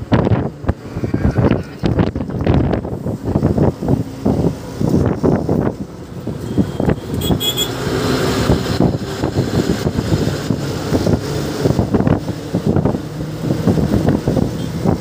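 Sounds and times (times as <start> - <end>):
road traffic: 0.0 - 15.0
wind buffeting microphone: 0.0 - 15.0.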